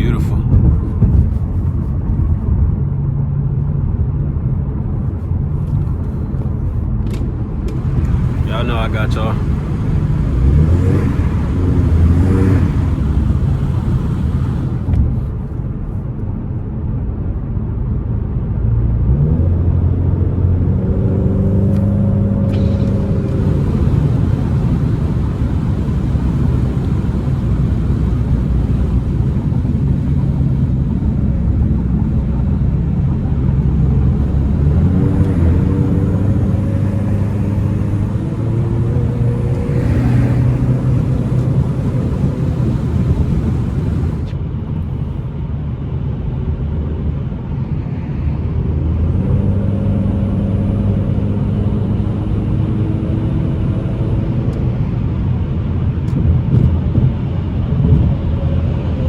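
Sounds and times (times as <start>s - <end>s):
car engine accelerating: 0.0s - 15.9s, 19.0s - 45.9s, 47.7s - 59.0s.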